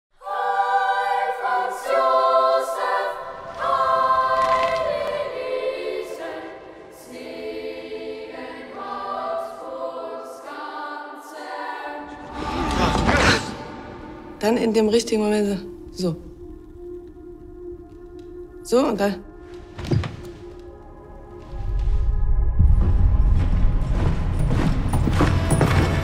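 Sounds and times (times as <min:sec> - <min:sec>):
choir singing held chords: 0:00.1 - 0:23.6.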